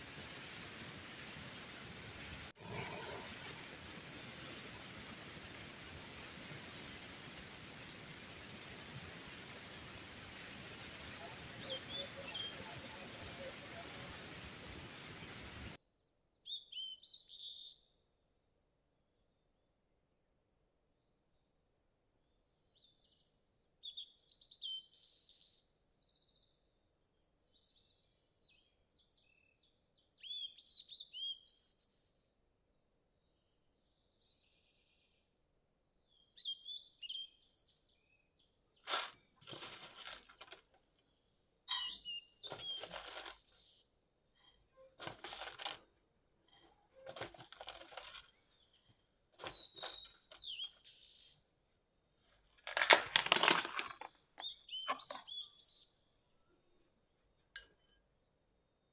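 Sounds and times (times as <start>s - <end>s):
small birds chirping: 0.0s - 15.8s, 21.8s - 35.3s, 36.0s - 45.9s, 46.5s - 58.1s.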